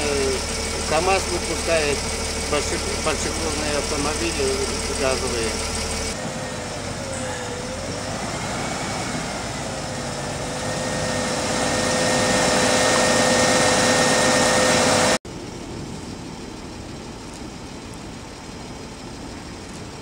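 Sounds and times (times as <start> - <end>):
steady whine: 0.0 - 20.0
truck engine idling: 0.0 - 20.0.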